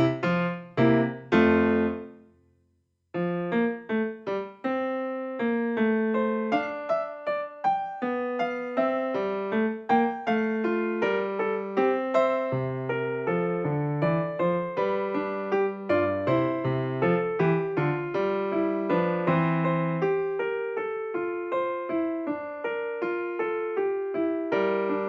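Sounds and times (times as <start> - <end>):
piano music: 0.0 - 2.3, 3.2 - 25.0.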